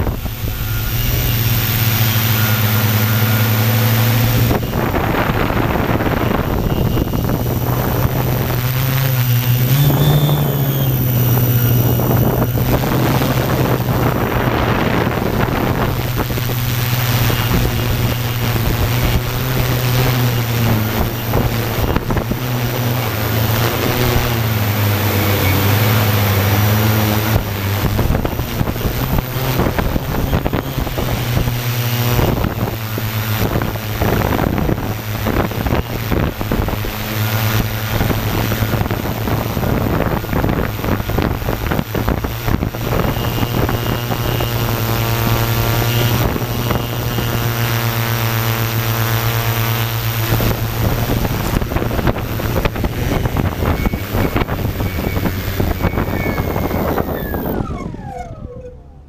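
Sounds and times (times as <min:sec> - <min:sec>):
drone propellers buzzing: 0:00.0 - 0:59.0
wind noise on microphone: 0:00.0 - 0:59.0.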